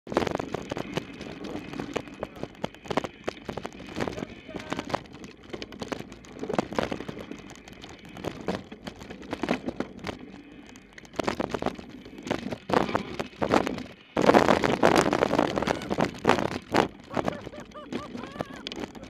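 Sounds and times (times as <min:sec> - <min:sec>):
mountain bike clattering: 0:00.1 - 0:19.0
tyres on dirt: 0:00.1 - 0:19.0.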